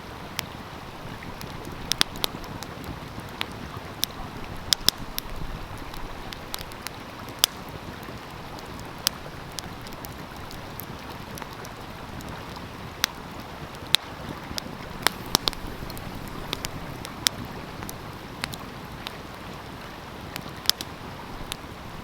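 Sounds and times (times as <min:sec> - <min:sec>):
stream flowing: 0:00.0 - 0:22.0
wood fire crackling and popping: 0:00.3 - 0:22.0.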